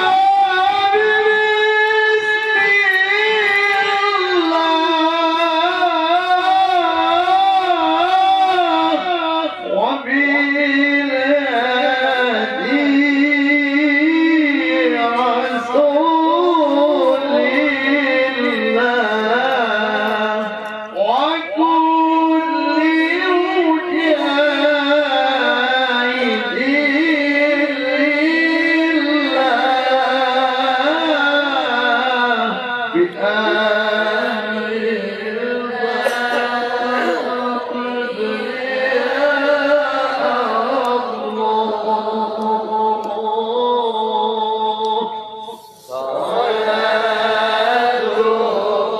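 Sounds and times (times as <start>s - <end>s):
man reciting melodically: 0.0s - 48.9s.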